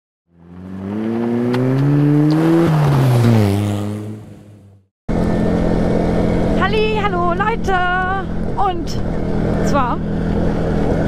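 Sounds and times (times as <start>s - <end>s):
vehicle engine passing by: 0.3s - 11.0s.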